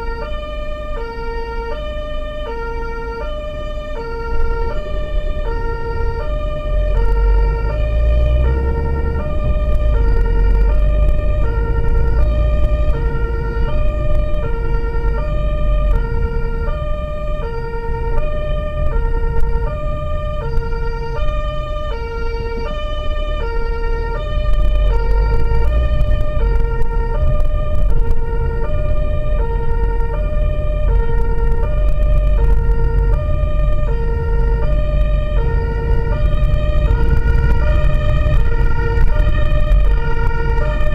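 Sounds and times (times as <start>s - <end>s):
engine and road rumble: 0.0s - 40.9s
two-tone emergency siren: 0.0s - 40.9s.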